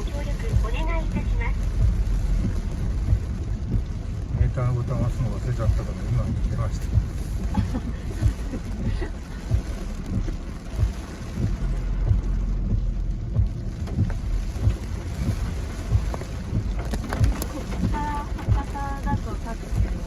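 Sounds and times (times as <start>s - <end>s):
rain on a car: 0.0s - 20.0s
tyres on wet road: 0.0s - 20.0s.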